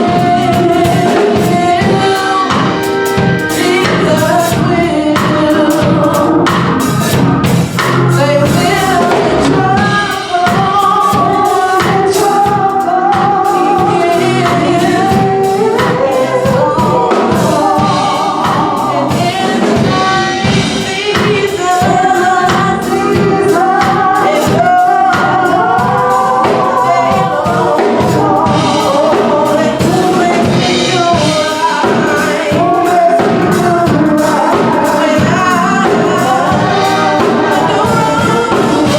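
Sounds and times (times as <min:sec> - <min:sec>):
gospel singing with accompaniment: 0:00.0 - 0:38.9.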